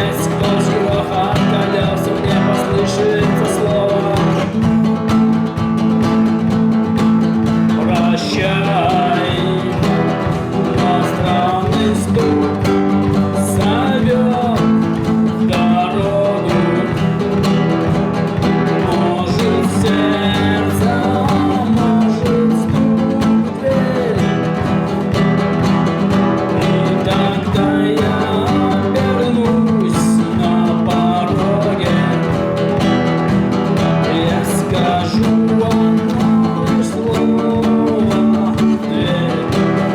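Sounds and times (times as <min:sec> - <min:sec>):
guitar playing tune: 0:00.0 - 0:39.9
steady drum beat: 0:00.0 - 0:39.9.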